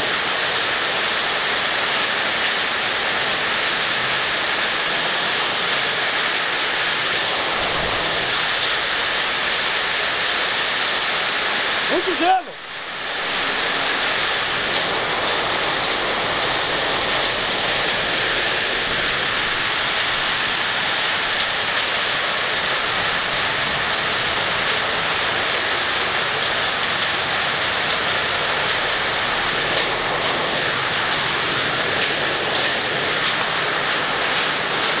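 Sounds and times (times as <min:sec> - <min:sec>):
heavy rain and hail on pavement: 0:00.0 - 0:35.0.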